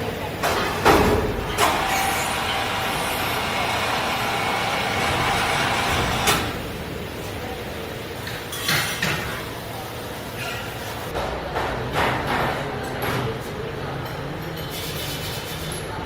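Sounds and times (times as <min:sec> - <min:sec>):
metalworking machine noise: 0:00.0 - 0:13.4.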